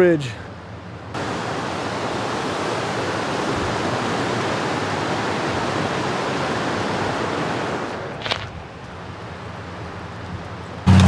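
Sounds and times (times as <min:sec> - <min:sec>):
river rushing with whitewater: 0:00.0 - 0:10.9.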